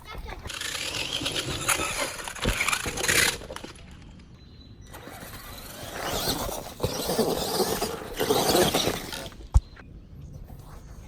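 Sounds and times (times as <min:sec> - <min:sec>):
rc truck motor and tyres: 0:00.0 - 0:09.8.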